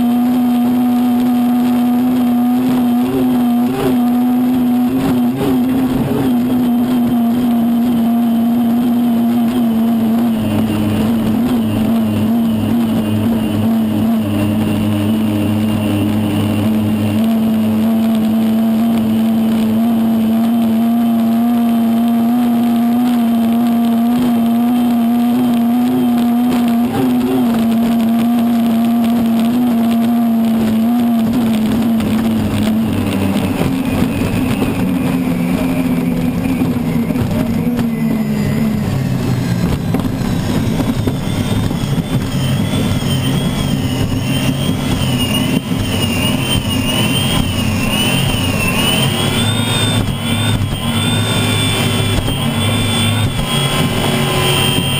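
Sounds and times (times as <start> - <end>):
high wavering whine: 0.0 - 54.9
turbine engine running hard: 0.0 - 54.9.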